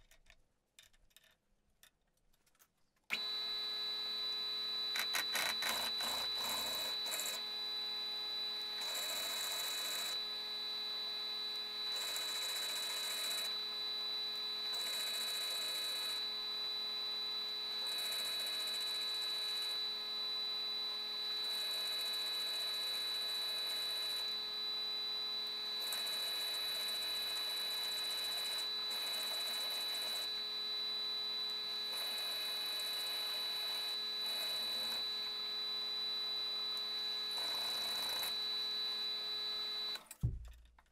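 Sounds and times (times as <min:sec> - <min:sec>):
drill cutting hiss: 0:03.1 - 0:40.0
milling machine spindle humming: 0:03.1 - 0:40.0.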